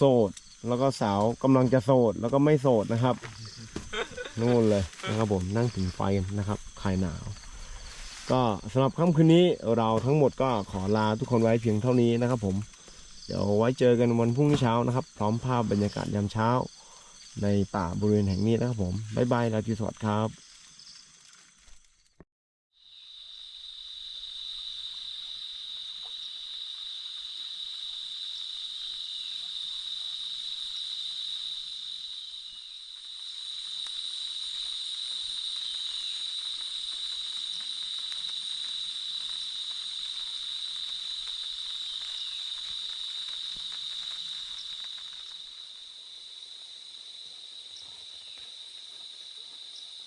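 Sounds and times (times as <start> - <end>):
insect chorus drone: 0.0 - 22.2, 22.8 - 50.0.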